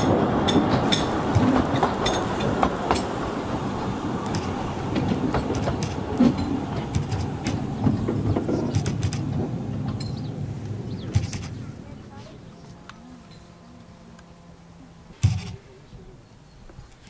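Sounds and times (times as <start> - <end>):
wheels clicking on track: 0.0 - 14.3
train carriages rumbling: 0.0 - 17.0.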